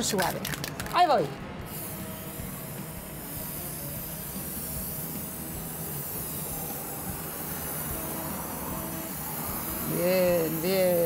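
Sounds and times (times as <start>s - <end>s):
spray paint can hissing: 0.0s - 11.0s.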